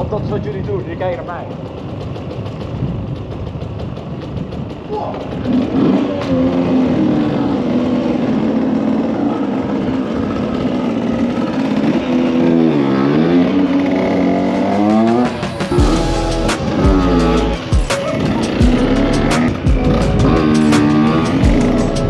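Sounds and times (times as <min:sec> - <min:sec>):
two-stroke motorcycle engine revving: 0:00.0 - 0:22.0.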